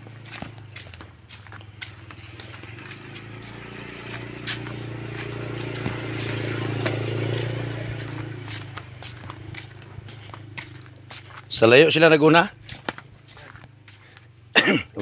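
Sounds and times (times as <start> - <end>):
small engine running: 0.0 - 14.5
footsteps crunching on dry leaves: 0.0 - 15.0.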